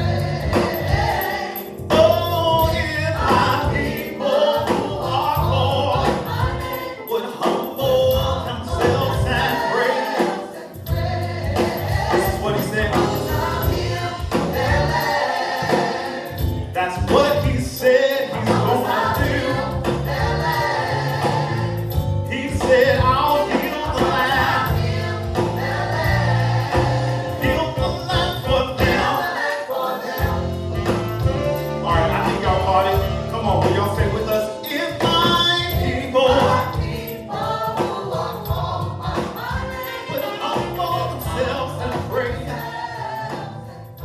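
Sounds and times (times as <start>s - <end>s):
bass line: 0.0s - 1.2s, 1.8s - 6.7s, 7.8s - 9.6s, 10.8s - 15.8s, 16.4s - 17.8s, 18.4s - 29.2s, 30.2s - 34.4s, 35.0s - 39.8s, 40.6s - 44.0s
band playing: 0.0s - 43.7s
choir singing: 0.0s - 44.0s.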